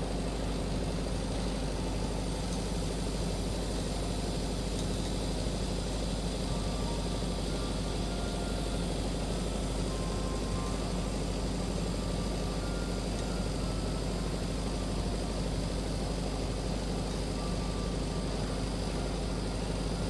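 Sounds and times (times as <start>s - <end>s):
welding arc hissing and humming: 0.0s - 20.0s.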